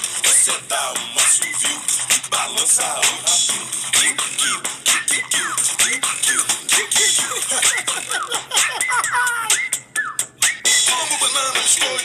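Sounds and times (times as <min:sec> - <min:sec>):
electronic music with quick beat: 0:00.0 - 0:12.0.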